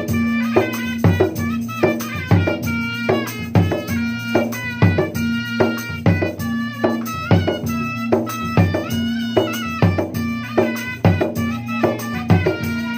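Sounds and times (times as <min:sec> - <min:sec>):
hand drums playing a pattern: 0:00.0 - 0:12.9.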